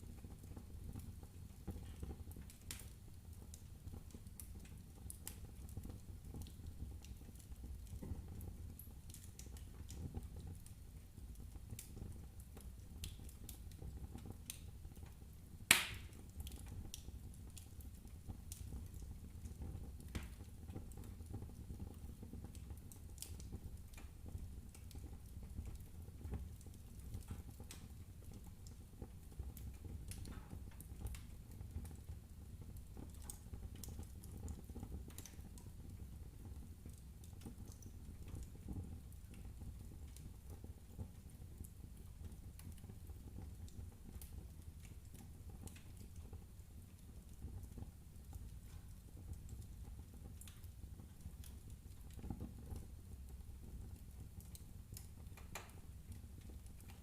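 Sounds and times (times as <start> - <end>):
low steady fire rumble: 0.0 - 57.0
wood fire crackling and popping: 0.0 - 57.0.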